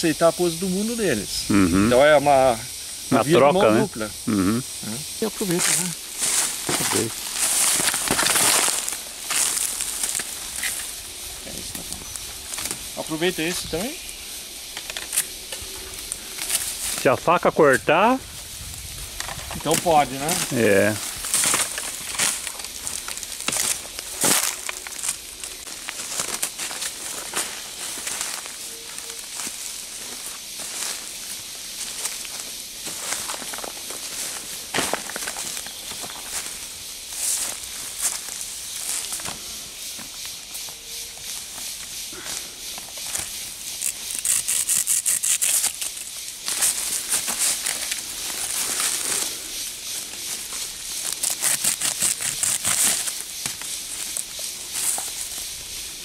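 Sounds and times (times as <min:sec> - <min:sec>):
footsteps on dry leaf litter: 0:05.2 - 0:14.0, 0:15.8 - 0:17.2, 0:18.2 - 0:55.8.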